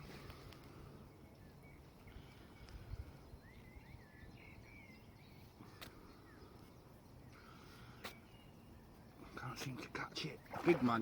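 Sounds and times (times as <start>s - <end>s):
soft bird chirps: 0.0s - 11.0s.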